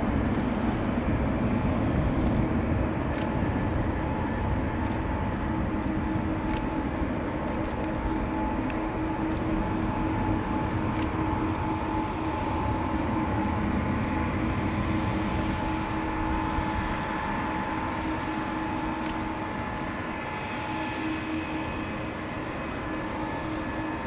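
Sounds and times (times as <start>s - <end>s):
jet engine whine: 0.0s - 24.0s
jet engines rumbling and hissing: 0.0s - 24.0s.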